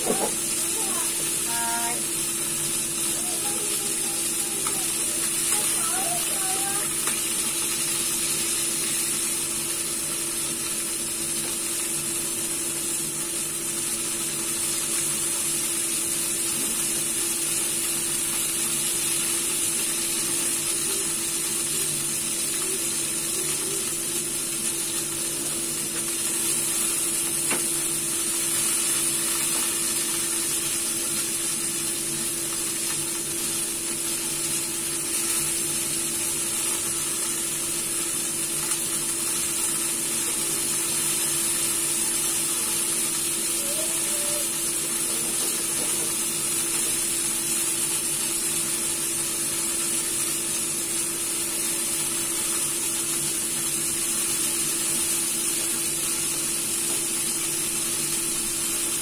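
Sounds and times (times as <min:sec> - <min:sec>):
chicken frying in oil: 0:00.0 - 0:59.0.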